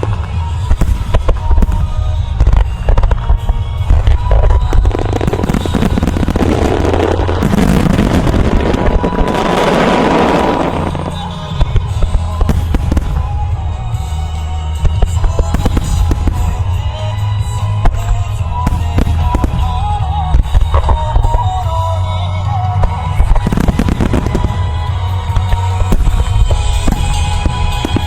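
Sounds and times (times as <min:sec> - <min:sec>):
fireworks crackling and banging: 0:00.0 - 0:28.0
show music: 0:00.0 - 0:28.0.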